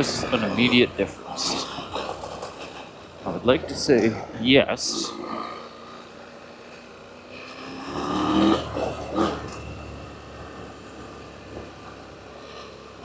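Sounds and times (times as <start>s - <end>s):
motorcycle engine revving: 0.0s - 13.0s
wind and road noise: 0.0s - 13.0s.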